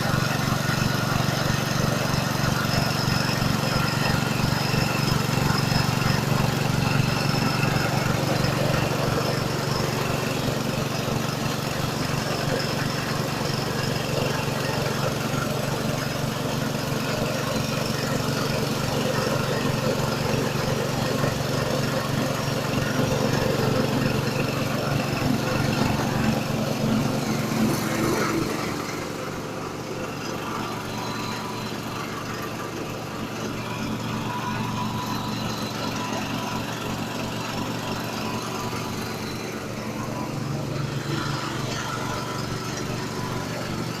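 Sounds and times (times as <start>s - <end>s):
grass chopper machine grinding: 0.0s - 44.0s.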